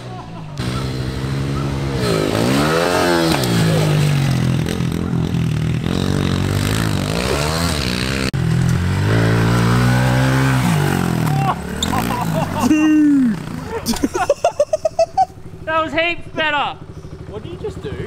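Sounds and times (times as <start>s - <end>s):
pit bike engines revving: 0.0s - 18.0s.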